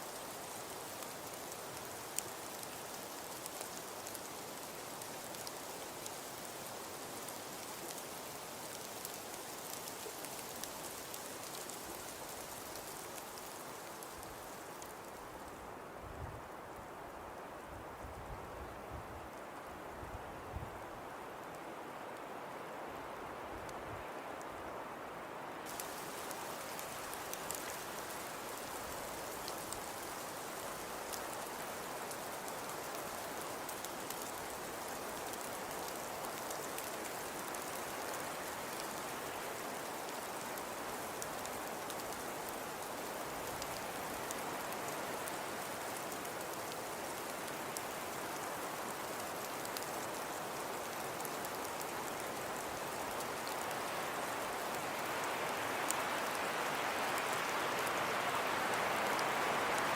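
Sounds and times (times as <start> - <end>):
light ticks pattering: 0.0 - 15.7, 23.2 - 24.7, 25.6 - 59.9
falling precipitation hiss: 0.0 - 59.9.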